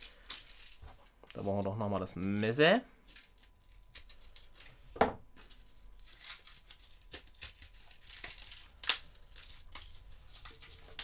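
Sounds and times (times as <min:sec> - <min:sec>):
plastic packaging tearing: 0:00.0 - 0:01.5, 0:02.4 - 0:04.8, 0:05.5 - 0:11.0.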